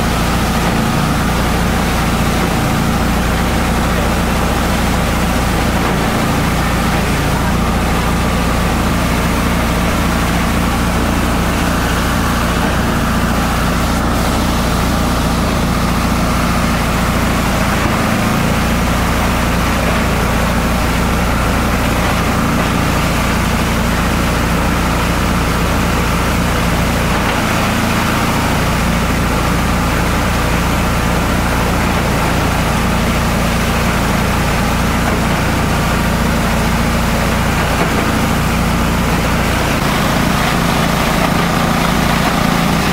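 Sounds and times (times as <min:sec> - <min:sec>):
shredder machine hum: 0:00.0 - 0:42.9.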